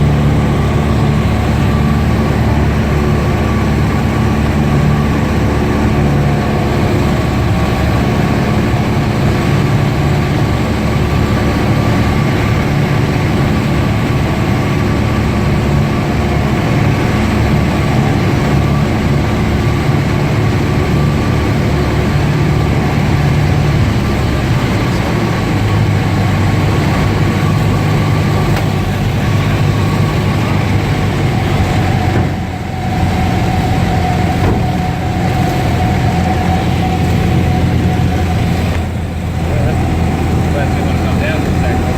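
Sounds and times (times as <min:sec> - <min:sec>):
light plane engine and propeller: 0:00.0 - 0:41.9.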